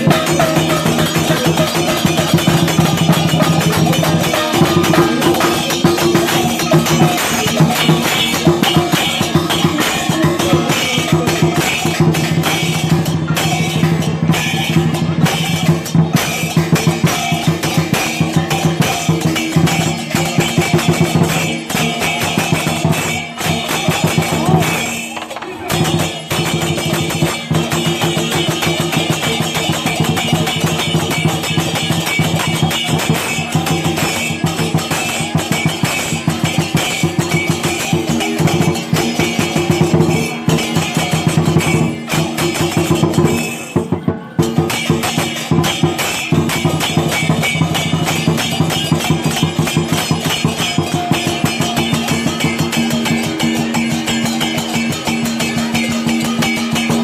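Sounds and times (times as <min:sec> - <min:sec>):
cymbal strokes: 0:00.0 - 0:57.0
fast drum strokes: 0:00.0 - 0:57.0
steady ringing tones: 0:00.0 - 0:57.0.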